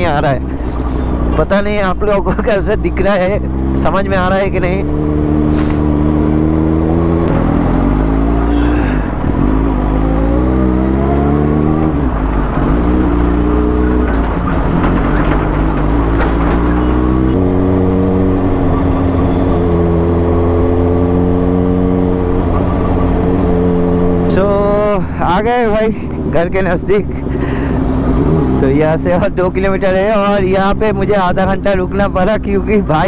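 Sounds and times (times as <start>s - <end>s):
motorcycle engine revving: 0.0s - 24.9s, 26.2s - 29.2s
wind and road noise: 0.0s - 33.0s.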